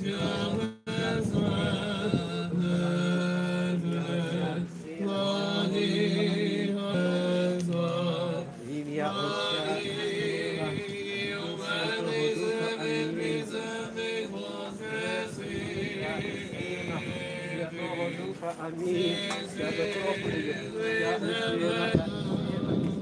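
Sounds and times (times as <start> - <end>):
higher voices singing melody: 0.0 - 23.0
low male voice chanting: 0.0 - 23.0.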